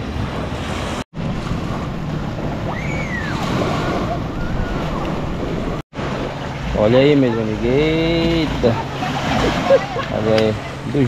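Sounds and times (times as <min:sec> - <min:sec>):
wind rushing on microphone: 0:00.0 - 0:11.0.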